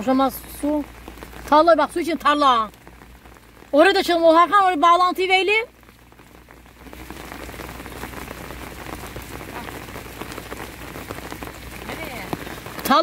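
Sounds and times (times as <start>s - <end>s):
rain drops tapping: 0.0s - 13.0s.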